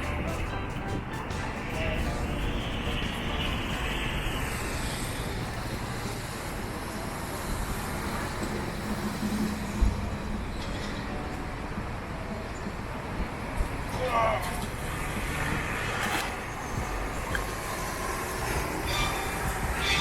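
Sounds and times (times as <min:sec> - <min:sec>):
engine hum: 0:00.0 - 0:20.0
road traffic passing: 0:00.0 - 0:20.0.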